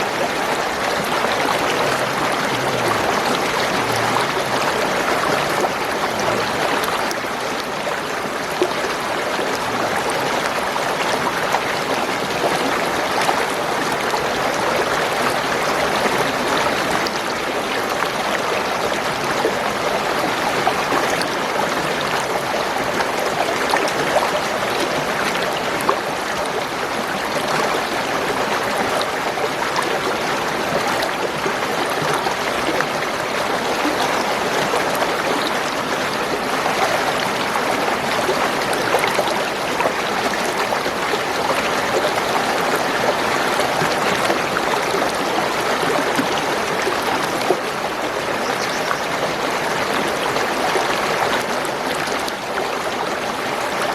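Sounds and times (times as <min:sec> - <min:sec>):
water gurgling over stones: 0:00.0 - 0:53.9.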